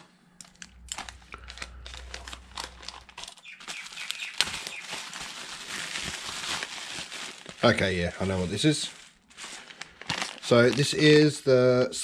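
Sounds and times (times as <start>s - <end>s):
plastic satchel tearing: 0.4s - 11.1s
bubble wrap crinkling: 0.4s - 11.5s.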